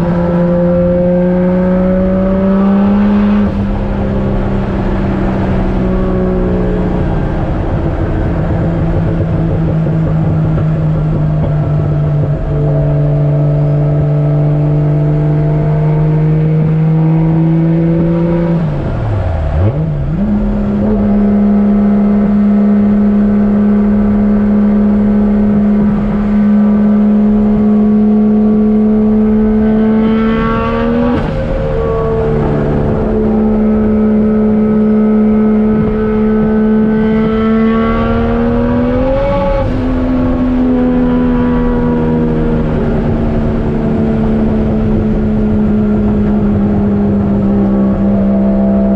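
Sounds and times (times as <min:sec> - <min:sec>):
car engine running with gear changes: 0:00.0 - 0:48.9.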